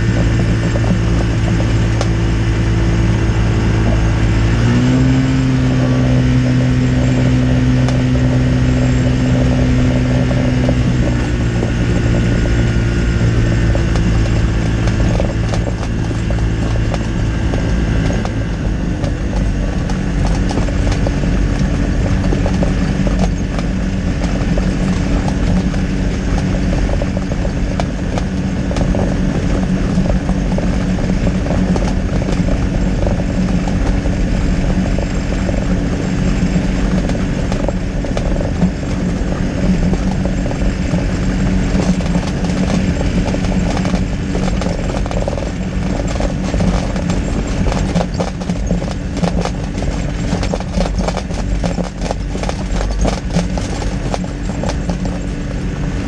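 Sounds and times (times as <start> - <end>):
airframe knocking and rattling: 0.0 - 56.0
light aircraft engine and propeller: 0.0 - 56.0.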